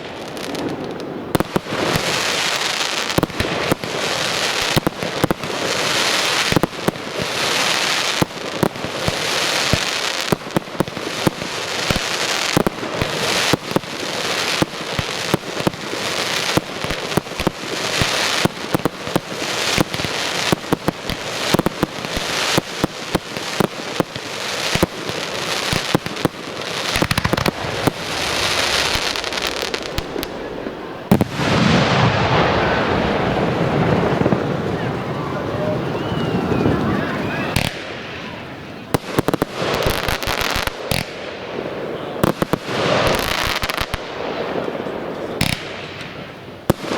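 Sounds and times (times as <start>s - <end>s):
fireworks bangs: 0.0s - 46.9s
fireworks crackling and fizzing: 0.0s - 46.9s.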